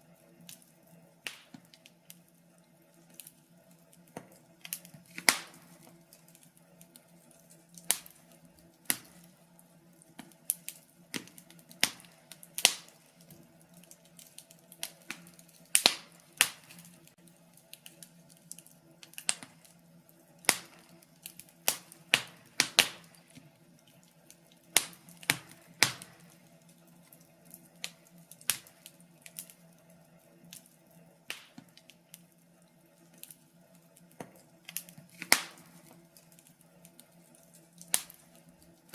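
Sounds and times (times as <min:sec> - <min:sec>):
faint steady hum: 0:00.0 - 0:38.9
fire crackling and popping: 0:00.0 - 0:38.9.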